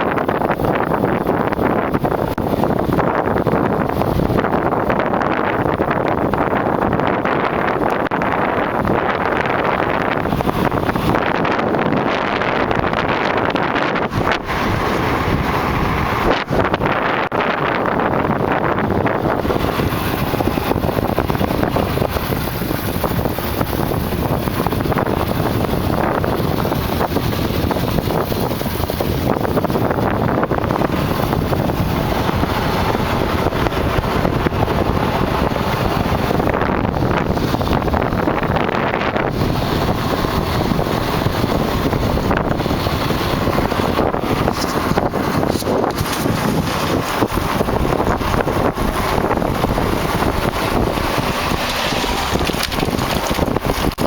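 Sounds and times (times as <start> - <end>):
dirt bike rolling noise: 0.0 - 54.0
wind rush on microphone: 0.0 - 54.0.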